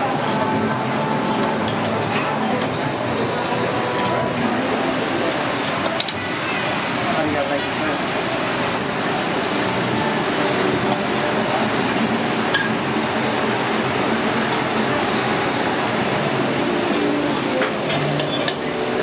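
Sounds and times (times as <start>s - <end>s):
gas burners roaring: 0.0s - 19.0s
kitchen exhaust: 0.0s - 19.0s.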